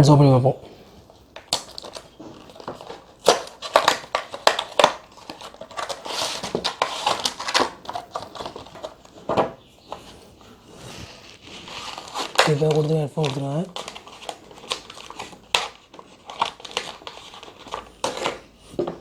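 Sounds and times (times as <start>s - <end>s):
packaging crinkling and rustling: 0.9s - 19.0s
packaging snapping: 1.0s - 10.2s, 11.1s - 19.0s.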